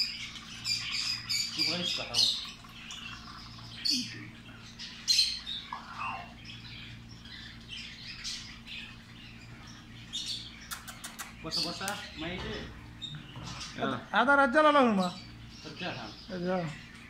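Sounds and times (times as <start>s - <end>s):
parrot squawking: 0.0s - 14.2s.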